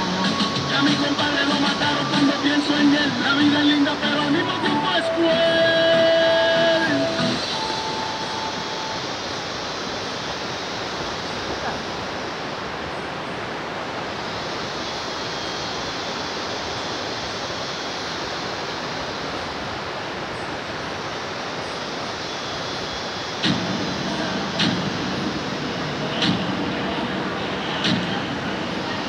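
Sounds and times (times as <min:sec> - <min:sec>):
river rapids rushing: 0:00.0 - 0:29.0.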